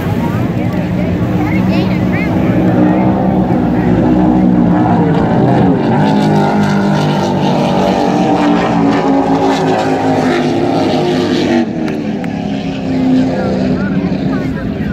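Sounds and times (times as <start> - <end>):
racing boat engines droning: 0.0 - 14.9.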